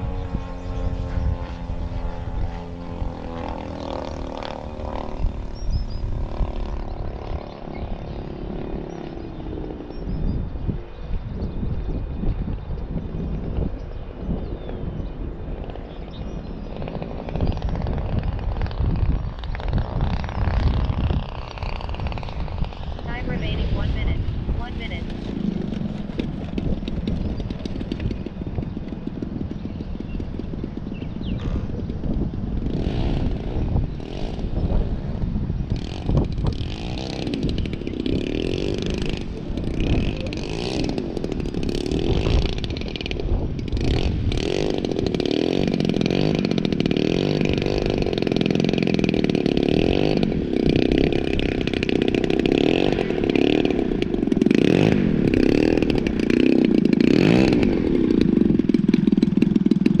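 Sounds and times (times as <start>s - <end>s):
model plane engine running: 0.0s - 60.0s.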